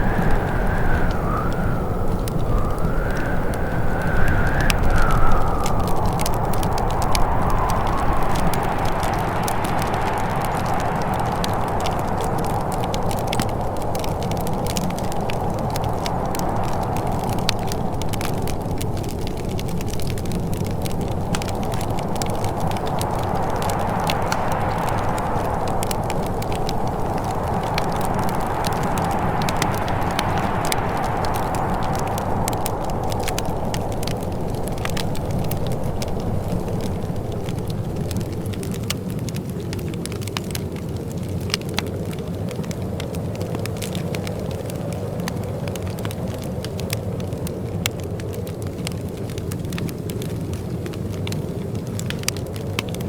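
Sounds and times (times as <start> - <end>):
wind rushing and whistling: 0.0 - 53.0
wood fire crackling: 0.0 - 53.0.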